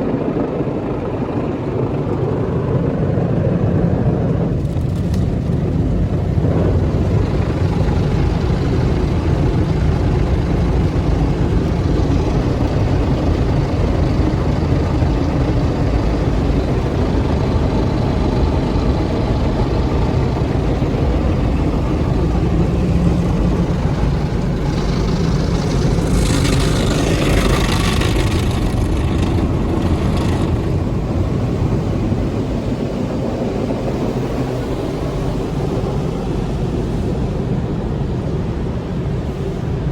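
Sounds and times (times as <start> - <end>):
car wash machinery rumble: 0.0 - 39.9.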